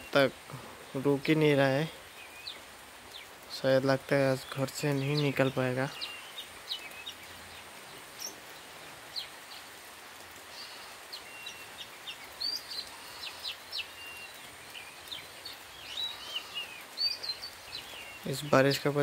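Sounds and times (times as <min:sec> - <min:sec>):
birds chirping: 0:00.0 - 0:19.0
light rain hiss: 0:00.0 - 0:19.0.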